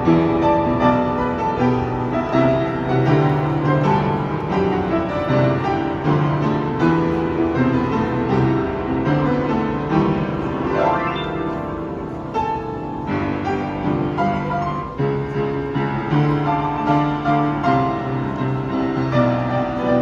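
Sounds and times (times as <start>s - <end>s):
solo piano: 0.0s - 20.0s.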